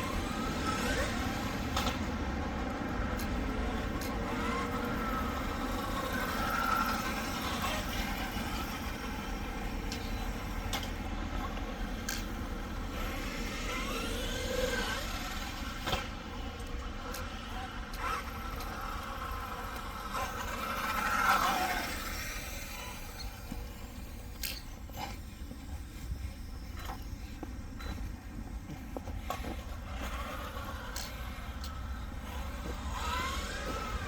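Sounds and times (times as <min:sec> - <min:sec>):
electric motor whining: 0:00.0 - 0:34.0.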